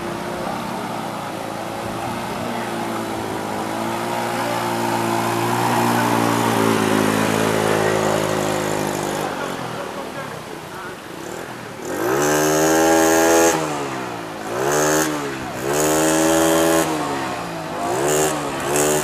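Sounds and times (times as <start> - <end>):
motorcycle riding through water: 0.0 - 19.0.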